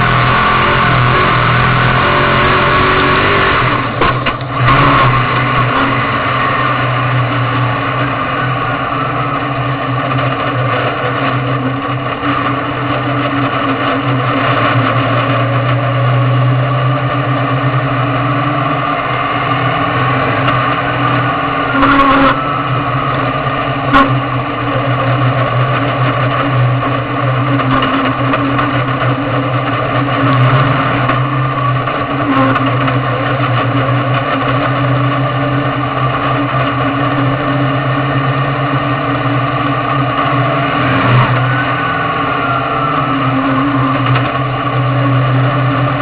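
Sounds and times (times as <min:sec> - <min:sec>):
race car engine running: 0:00.0 - 0:46.0.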